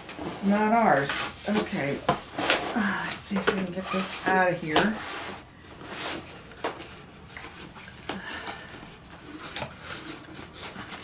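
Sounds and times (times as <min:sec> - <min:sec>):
cardboard box rubbing and scraping: 0:00.0 - 0:07.8, 0:09.2 - 0:11.0.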